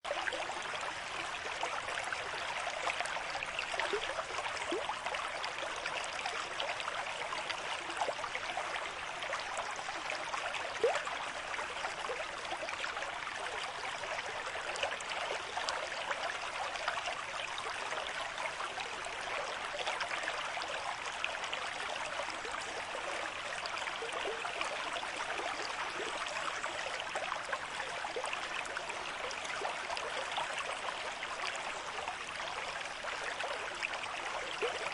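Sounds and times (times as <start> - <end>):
stream flowing over stones: 0.0 - 34.9.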